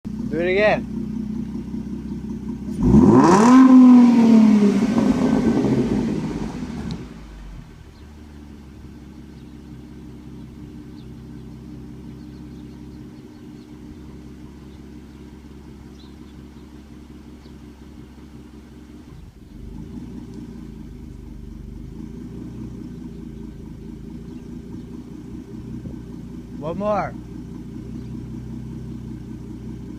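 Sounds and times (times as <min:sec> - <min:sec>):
car engine revving and idling: 0:00.1 - 0:29.9.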